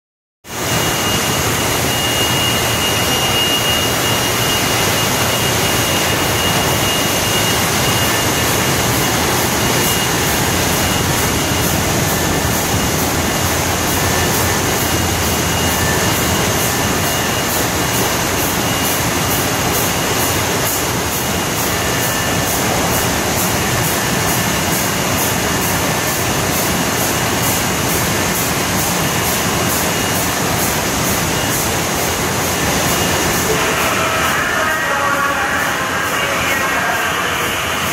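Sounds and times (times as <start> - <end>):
bottle filler rushing with whine: 0.5 - 34.4.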